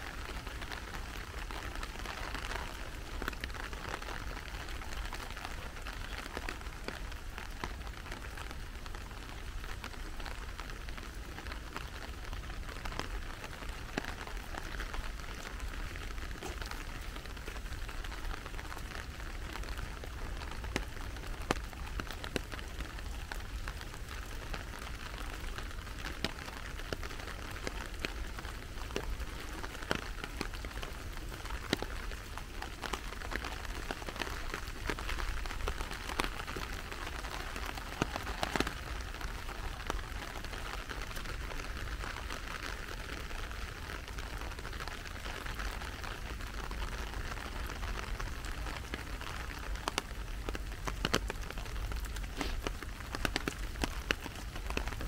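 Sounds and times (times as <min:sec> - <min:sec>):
raindrops ticking close by: 0:00.0 - 0:55.0
steady rain hiss: 0:00.0 - 0:55.0.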